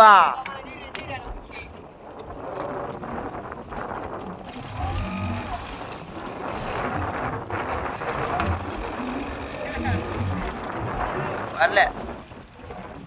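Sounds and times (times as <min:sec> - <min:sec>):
boat engine running: 0:00.0 - 0:13.0
water: 0:00.0 - 0:13.0
wind: 0:00.0 - 0:13.0.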